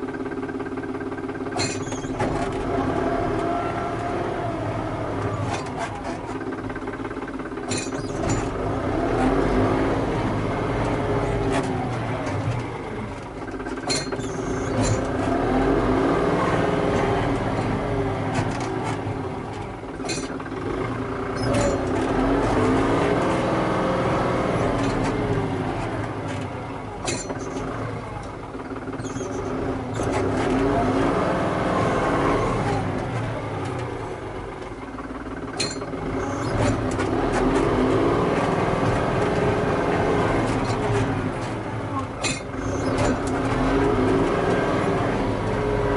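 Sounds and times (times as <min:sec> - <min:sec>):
knocks and clatters: 0:00.0 - 0:04.2, 0:05.0 - 0:30.8, 0:31.8 - 0:45.9
tractor engine running: 0:00.0 - 0:45.9.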